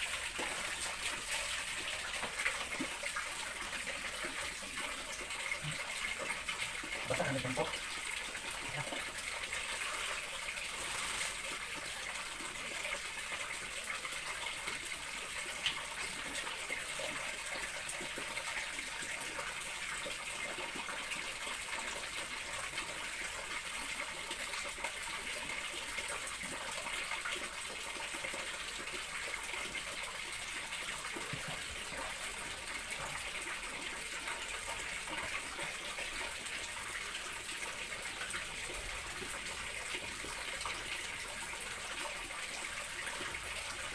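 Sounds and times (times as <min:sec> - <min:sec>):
water running from tap: 0:00.0 - 0:43.9.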